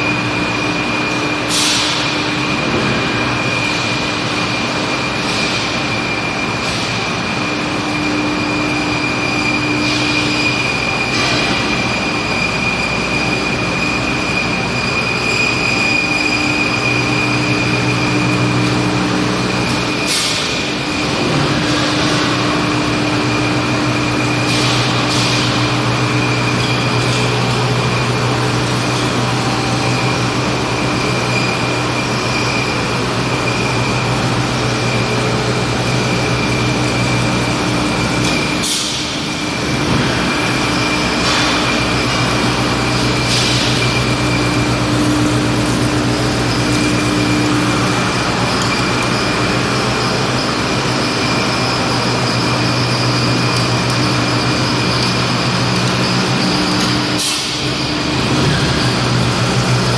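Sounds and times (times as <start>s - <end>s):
industrial machinery drone: 0.0s - 59.9s.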